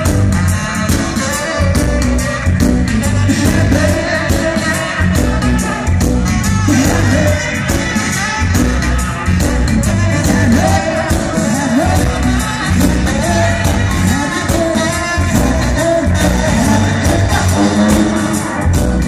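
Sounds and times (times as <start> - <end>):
bass: 0.0 - 19.0
drums: 0.0 - 19.0
person singing: 0.0 - 19.0
saxophone melody: 0.0 - 19.0.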